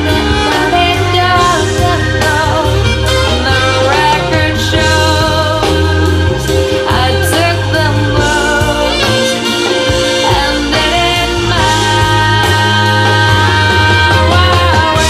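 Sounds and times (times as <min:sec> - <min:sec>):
music through loudspeakers: 0:00.0 - 0:15.0.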